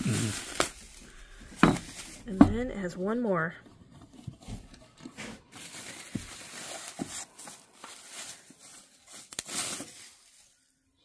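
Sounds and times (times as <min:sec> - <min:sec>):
bubble wrap rustling and crinkling: 0:00.0 - 0:02.4, 0:04.1 - 0:10.8.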